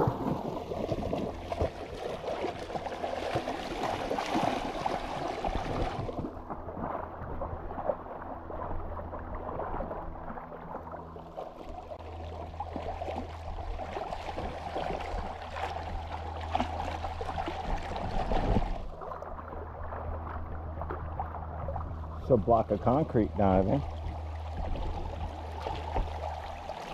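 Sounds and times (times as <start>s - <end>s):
legs wading and splashing: 0.0s - 26.9s
river running water: 0.0s - 26.9s.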